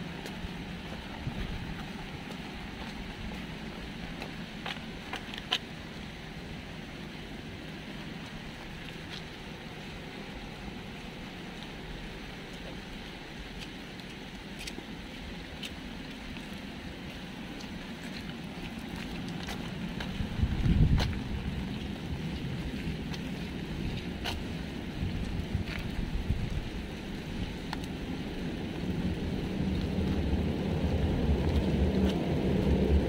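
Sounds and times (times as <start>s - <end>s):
traffic rushing on wet street: 0.0s - 33.0s.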